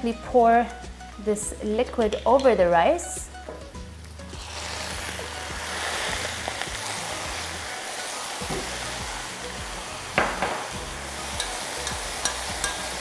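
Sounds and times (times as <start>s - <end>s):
rice pot sizzling: 0.0s - 13.0s.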